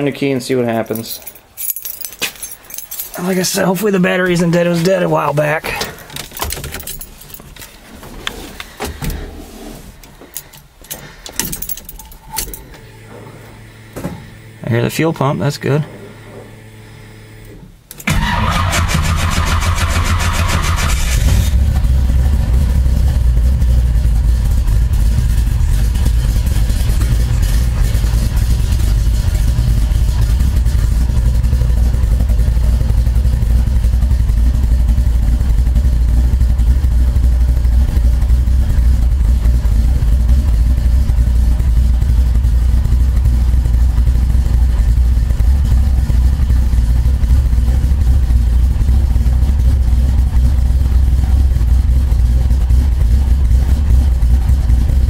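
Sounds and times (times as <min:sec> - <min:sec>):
car engine starting and idling: 0:01.2 - 0:55.0.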